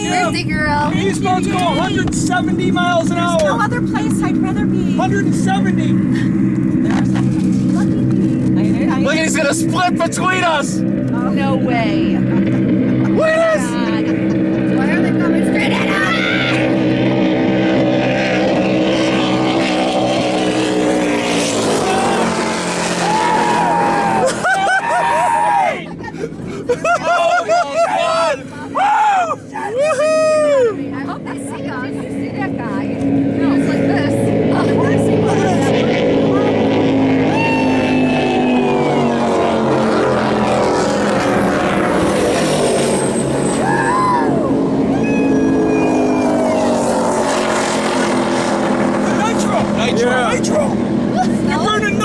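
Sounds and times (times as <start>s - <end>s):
racing powerboat engines: 0.0s - 52.0s.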